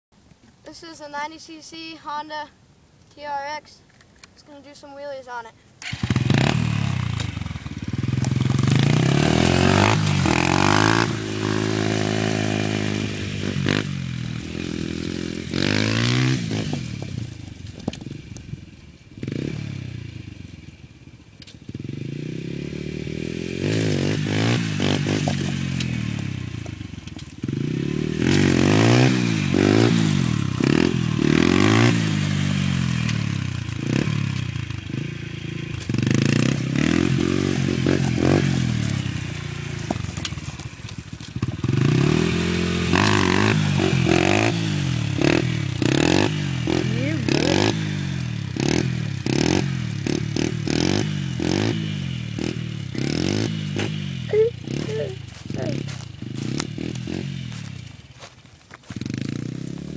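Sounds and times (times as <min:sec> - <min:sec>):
quad engine revving: 0:05.8 - 0:58.2, 0:58.8 - 0:59.9.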